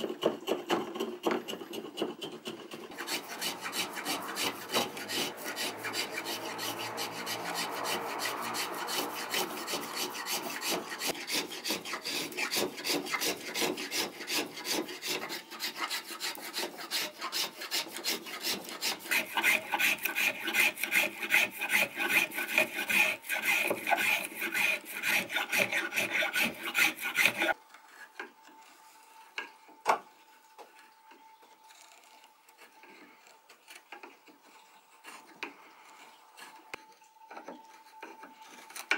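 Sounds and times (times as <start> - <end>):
spokeshave shaving wood: 0.0 - 29.1, 31.6 - 36.7, 37.8 - 38.9.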